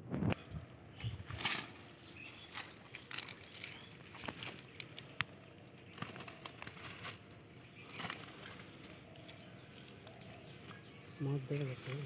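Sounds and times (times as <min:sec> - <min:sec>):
net rustling over dry grass: 0:01.1 - 0:12.0.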